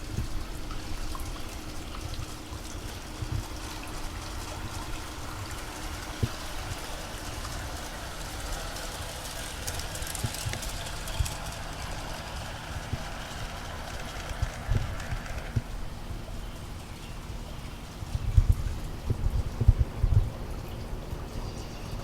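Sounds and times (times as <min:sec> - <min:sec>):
water trickling in a stream: 0:00.0 - 0:22.0.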